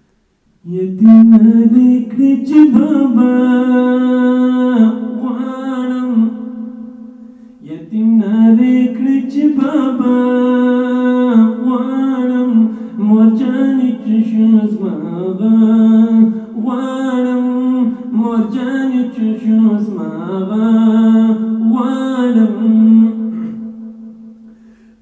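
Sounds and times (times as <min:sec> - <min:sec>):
person singing devotional chant: 0:00.6 - 0:24.4.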